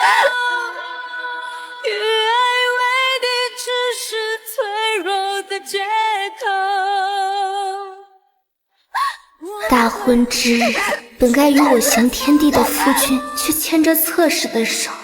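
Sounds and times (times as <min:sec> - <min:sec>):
woman singing: 0:00.0 - 0:08.2, 0:09.4 - 0:15.0.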